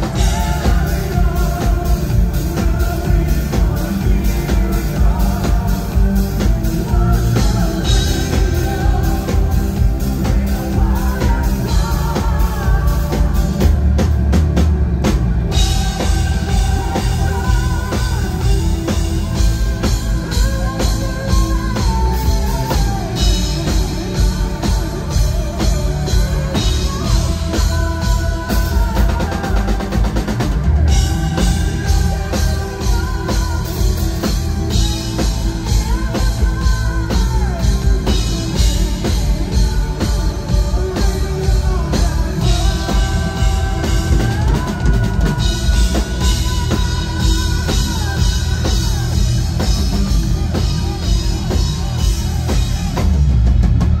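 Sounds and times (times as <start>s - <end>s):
hard rock band playing live: 0.0s - 54.0s.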